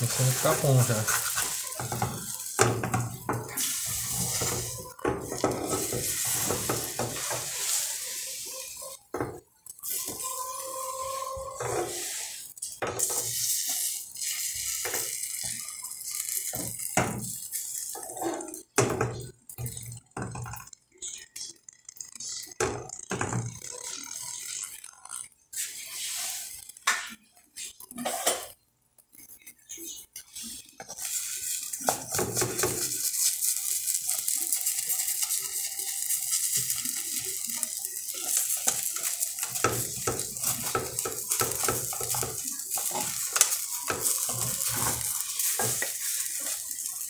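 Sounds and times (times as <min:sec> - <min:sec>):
metal spoon scraping a pan: 0:00.0 - 0:21.2, 0:23.2 - 0:47.0
bread sizzling in a pan: 0:00.0 - 0:47.0.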